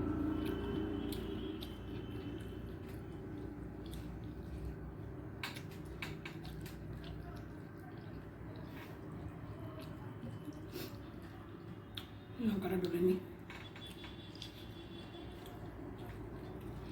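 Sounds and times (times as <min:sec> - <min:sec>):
person chewing food: 0:00.0 - 0:12.2, 0:13.4 - 0:16.9.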